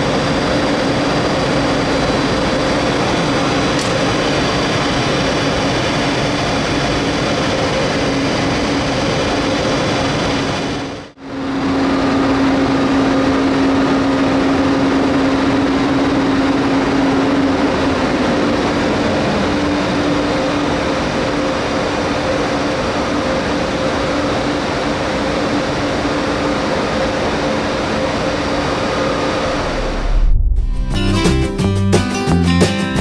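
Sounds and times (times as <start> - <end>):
even hum: 0.0 - 32.5
electric train rumble and hiss: 0.0 - 33.0.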